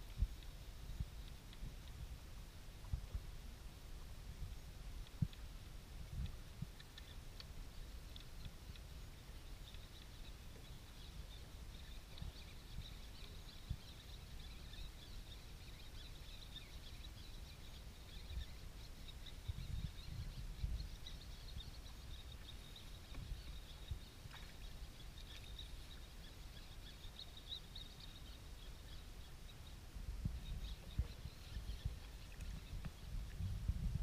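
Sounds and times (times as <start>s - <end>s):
wind rumble on microphone: 0.0s - 26.5s, 27.1s - 34.0s.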